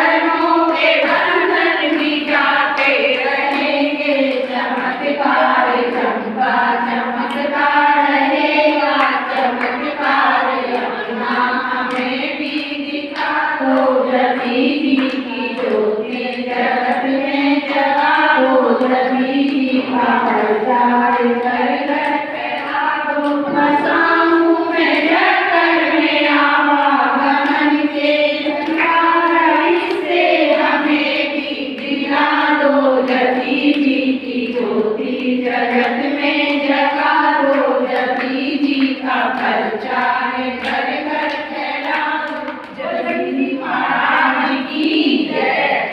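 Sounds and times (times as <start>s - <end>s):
women singing a hymn together: 0.0s - 45.9s.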